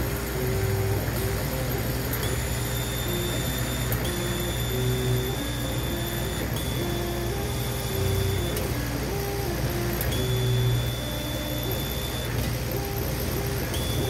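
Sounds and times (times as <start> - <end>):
laser cutter low hum: 0.0 - 14.0
stepper motor whine: 0.0 - 14.0
thin high whine: 0.0 - 14.0.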